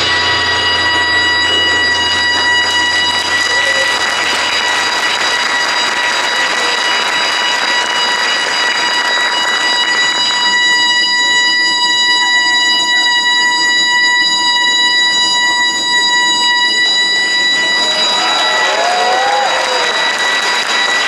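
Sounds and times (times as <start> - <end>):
high note held steady: 0.0 - 21.0.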